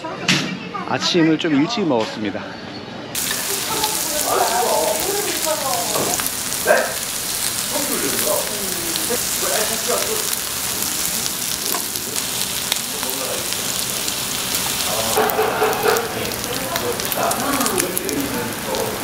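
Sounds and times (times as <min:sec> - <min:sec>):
background voices: 0:03.2 - 0:19.0
pork belly sizzling: 0:03.2 - 0:19.0.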